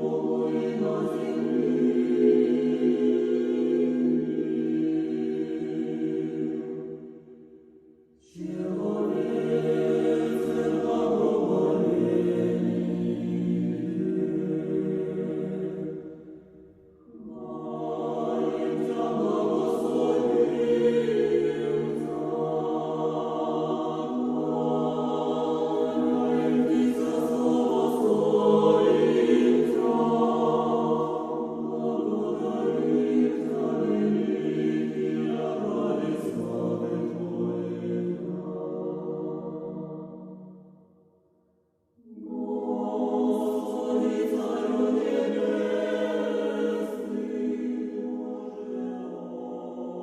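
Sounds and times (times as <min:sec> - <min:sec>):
choir singing a slow chant: 0:00.0 - 0:40.9, 0:41.9 - 0:50.0.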